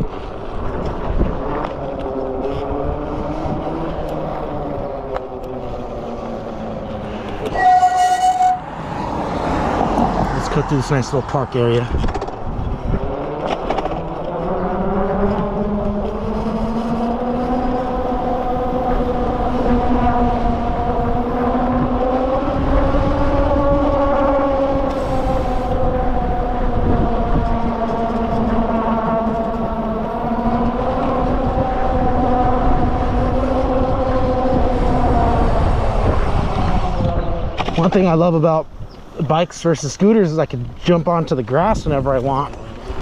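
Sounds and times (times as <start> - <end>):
wind and tyre rumble: 0.0 - 43.0.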